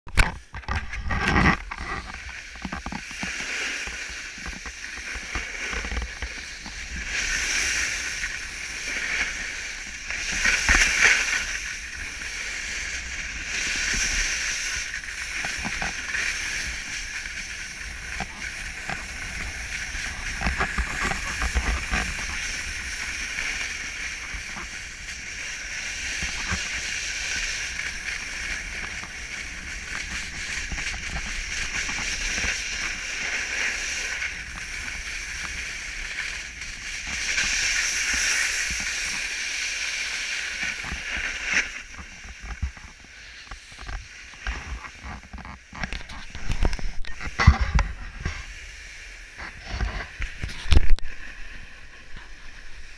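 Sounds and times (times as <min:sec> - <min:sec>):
snow hissing under skis: 0:02.2 - 0:45.0, 0:48.1 - 0:52.9.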